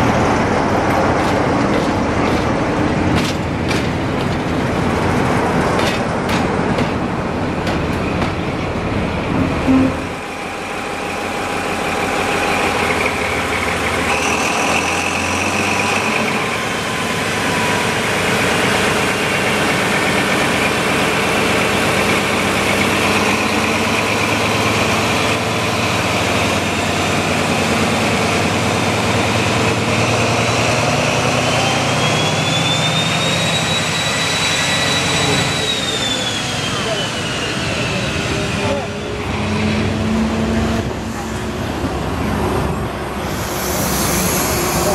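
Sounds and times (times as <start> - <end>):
diesel locomotive passing: 0.0 - 44.9
train engine hum and whine: 0.0 - 44.9.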